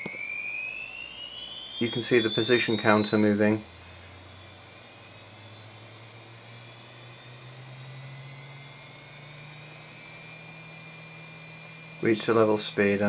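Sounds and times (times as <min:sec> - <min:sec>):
stepper motor whine rising: 0:00.0 - 0:13.0.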